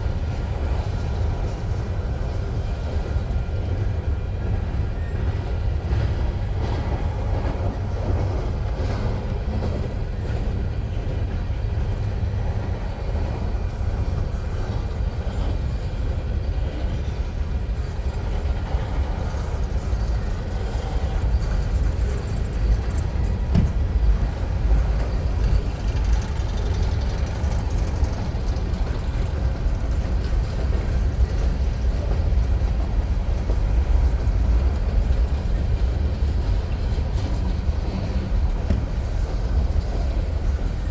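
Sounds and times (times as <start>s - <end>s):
freight train rolling past: 0.0s - 40.9s.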